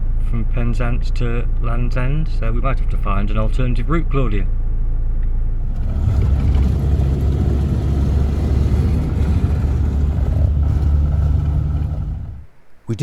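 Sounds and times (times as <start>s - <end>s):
engine and road rumble: 2.3s - 12.8s.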